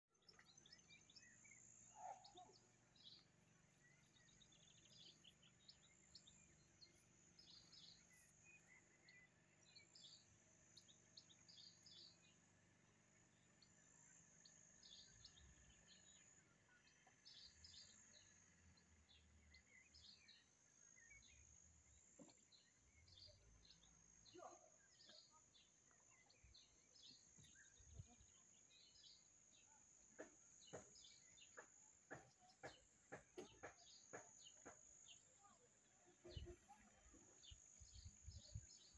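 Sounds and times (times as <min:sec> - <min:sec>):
faint small birds chirping: 0:00.1 - 0:38.9.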